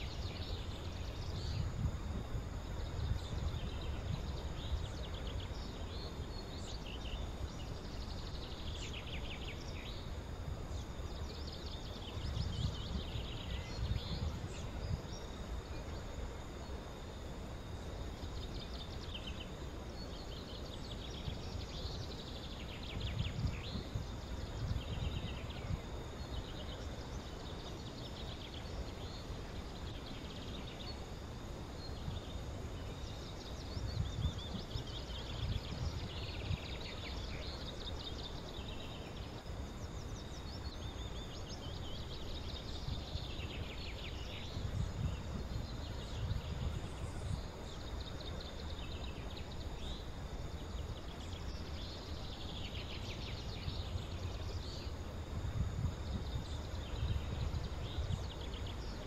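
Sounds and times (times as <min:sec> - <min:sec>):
insect hum: 0:00.0 - 0:59.0.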